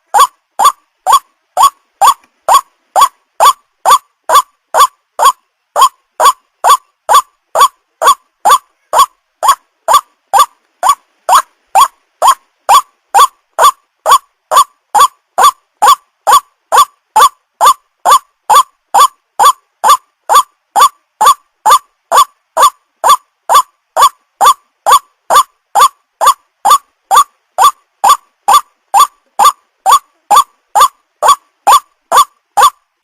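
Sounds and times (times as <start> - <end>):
waterhen call: 0.0 - 32.8.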